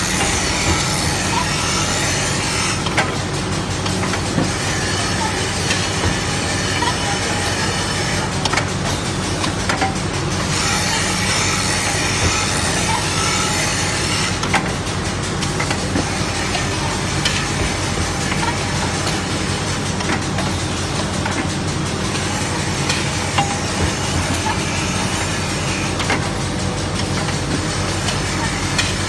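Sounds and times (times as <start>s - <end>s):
machine motors humming: 0.0s - 29.0s.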